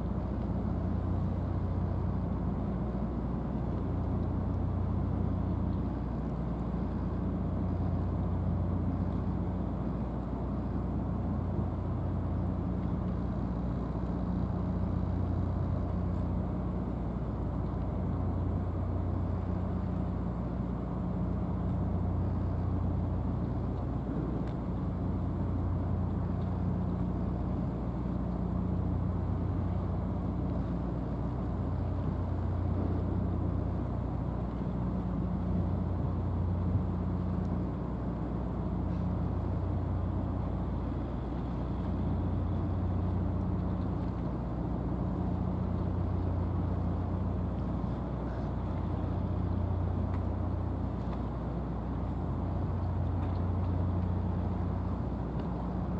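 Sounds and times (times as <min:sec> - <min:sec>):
harbour background noise: 0:00.0 - 0:55.9
low engine drone: 0:00.0 - 0:55.9.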